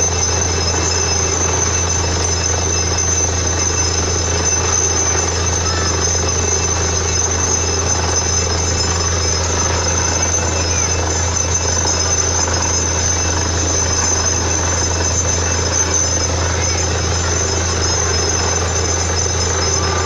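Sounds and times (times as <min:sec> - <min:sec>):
drilling rig engine hum: 0:00.0 - 0:20.0
high whine: 0:00.0 - 0:20.0
rough mechanical noise: 0:00.0 - 0:20.0.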